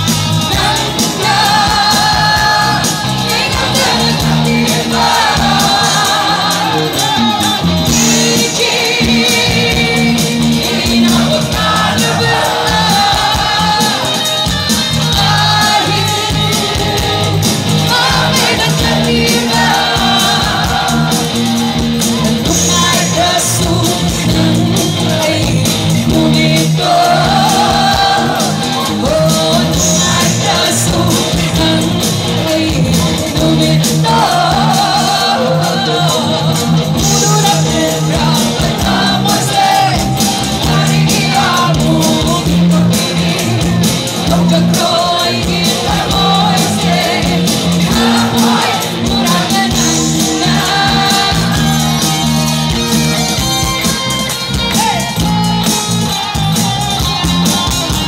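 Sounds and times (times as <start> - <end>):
crowd shouting and cheering: 0.0 - 58.0
electric guitars: 0.0 - 58.0
live band playing: 0.0 - 58.0
woman singing: 0.2 - 21.4, 22.2 - 52.2.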